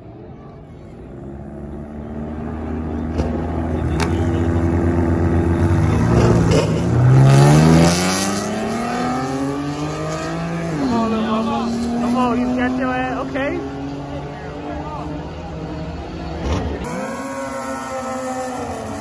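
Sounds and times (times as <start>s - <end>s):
car engines revving and accelerating: 0.0s - 19.0s.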